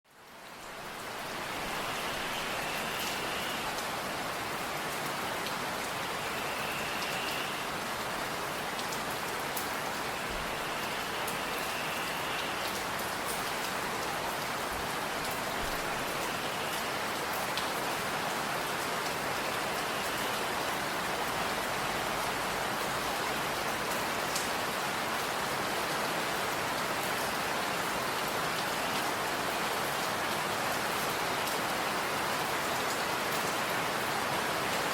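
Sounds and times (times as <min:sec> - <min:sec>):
rain hissing in forest: 0:00.1 - 0:34.9.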